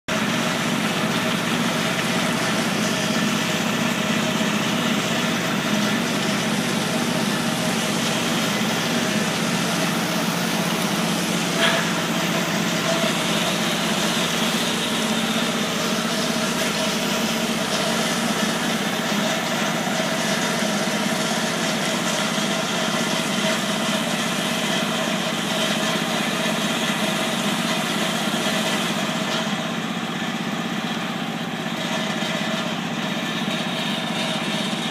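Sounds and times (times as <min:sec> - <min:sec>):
truck engine humming: 0:00.1 - 0:31.6.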